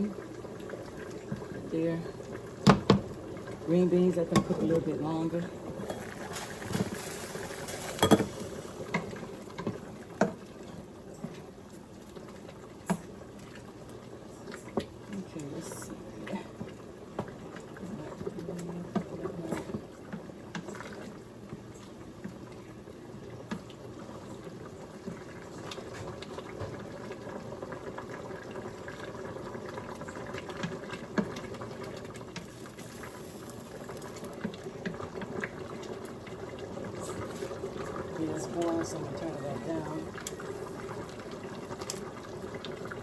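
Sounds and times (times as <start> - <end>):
pot bubbling at a boil: 0.0 - 43.0.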